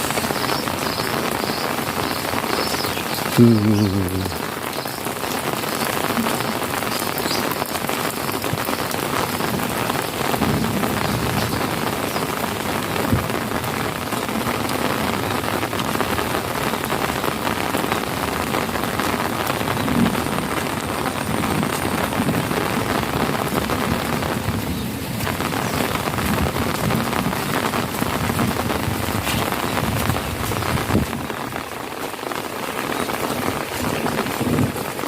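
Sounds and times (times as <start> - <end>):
heavy rain on puddles: 0.0 - 35.0.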